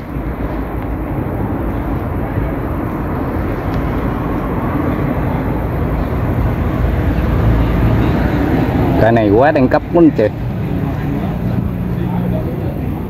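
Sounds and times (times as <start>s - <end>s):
outdoor background rumble and hiss: 0.0s - 13.0s.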